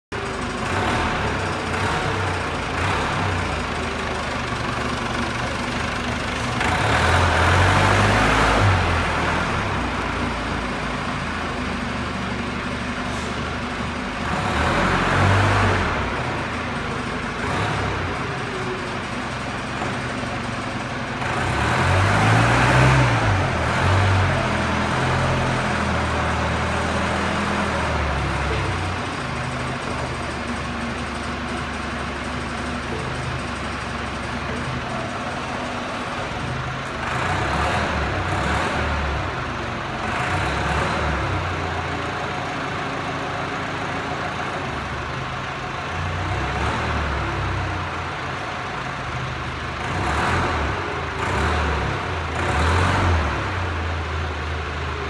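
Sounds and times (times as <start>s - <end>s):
forklift engine accelerating: 0.1s - 55.0s.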